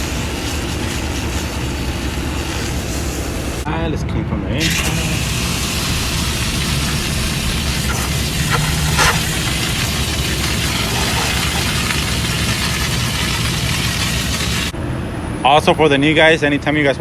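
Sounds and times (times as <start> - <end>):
water spraying from hose nozzle: 0.0 - 3.6, 4.6 - 14.7.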